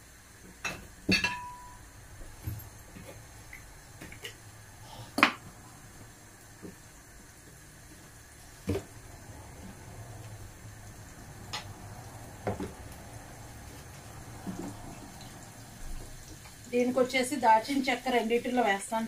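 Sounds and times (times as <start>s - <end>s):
oil sizzling faintly: 0.0s - 19.0s.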